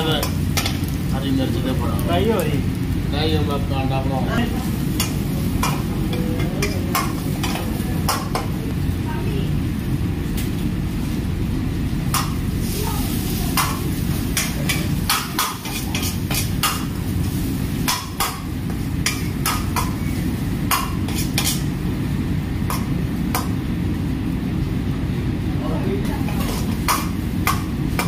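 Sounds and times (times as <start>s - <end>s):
frying sizzle: 0.0s - 28.0s.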